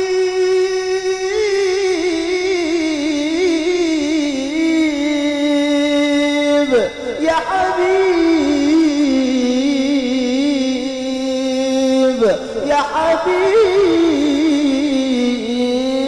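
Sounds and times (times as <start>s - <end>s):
man reciting melodically into microphone: 0.0s - 16.0s.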